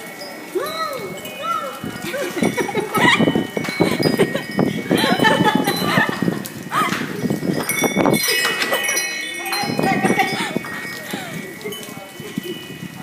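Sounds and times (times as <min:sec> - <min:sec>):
people talking and calling out: 0:00.0 - 0:13.0.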